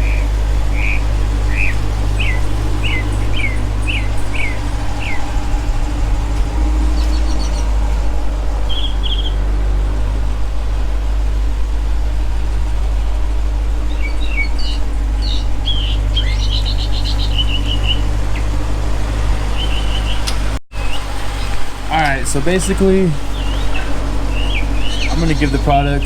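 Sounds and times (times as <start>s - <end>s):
small birds chirping: 0.0s - 26.0s
vehicle engine idling: 0.0s - 26.0s.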